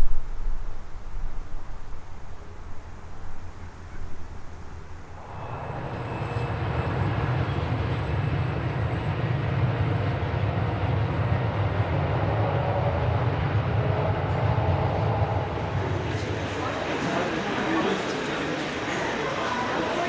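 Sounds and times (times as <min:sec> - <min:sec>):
diesel locomotive engine rumble: 0:00.0 - 0:20.0.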